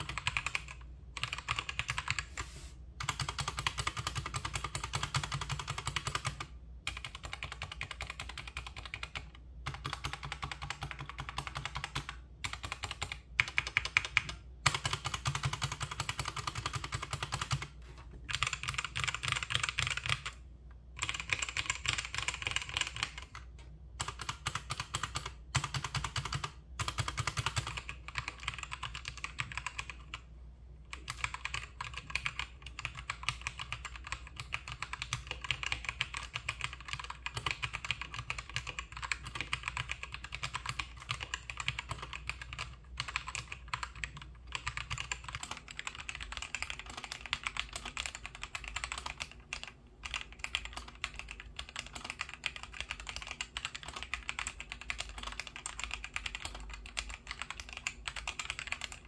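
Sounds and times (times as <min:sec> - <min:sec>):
fast typing on mechanical keyboard: 0:00.0 - 0:02.4, 0:03.0 - 0:30.3, 0:30.9 - 0:59.0.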